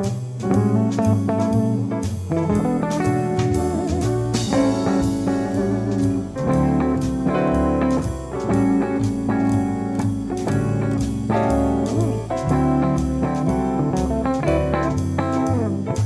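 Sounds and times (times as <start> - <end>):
bluesy jazz with guitar and drums: 0.0 - 16.0.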